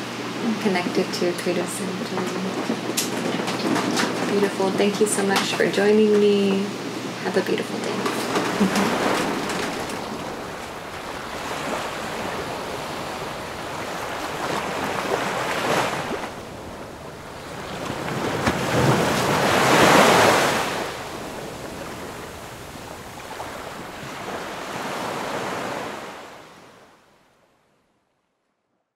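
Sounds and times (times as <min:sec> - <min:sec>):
waves breaking: 0:00.0 - 0:27.2.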